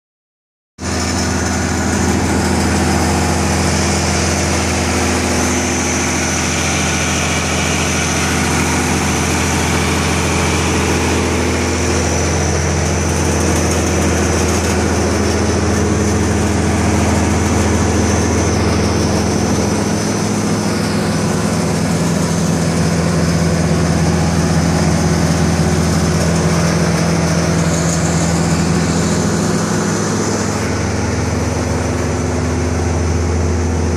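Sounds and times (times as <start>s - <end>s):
forage blower whining: 0.8s - 33.9s
tractor engine: 0.8s - 33.9s.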